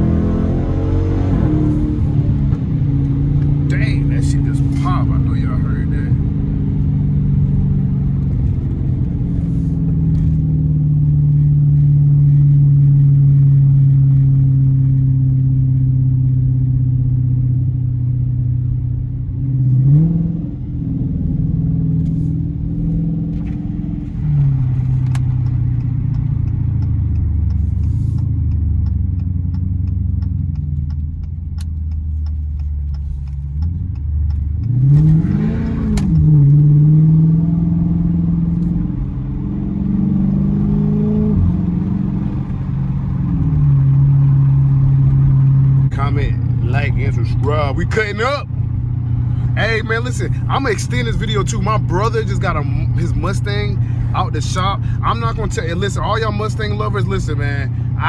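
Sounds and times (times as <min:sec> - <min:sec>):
car exhaust revving: 0:00.0 - 0:58.0.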